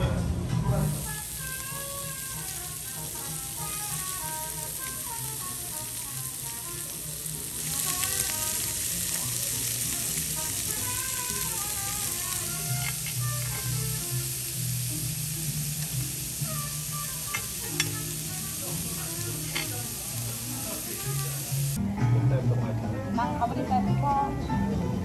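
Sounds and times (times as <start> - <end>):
light background music: 0.0 - 25.0
pork sizzling on grill pan: 0.8 - 21.8.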